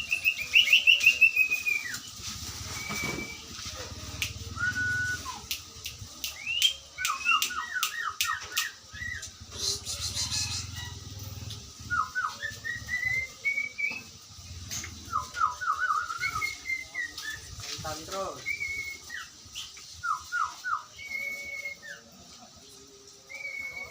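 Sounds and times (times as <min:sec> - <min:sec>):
bird-like whistled calls: 0:00.0 - 0:22.2, 0:23.3 - 0:23.9.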